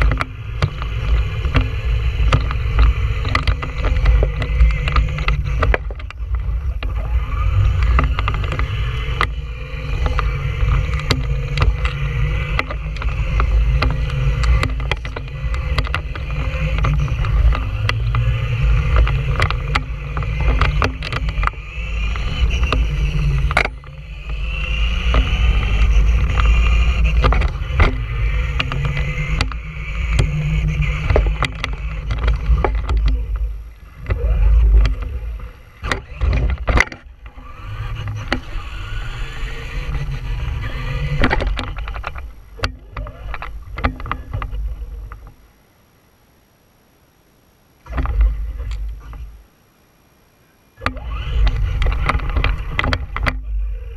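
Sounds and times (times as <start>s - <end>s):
chassis rattling clicks: 0.0s - 45.4s, 50.8s - 53.9s
motor and gears whining: 0.0s - 53.9s
wind and tyres rumbling: 0.0s - 53.9s.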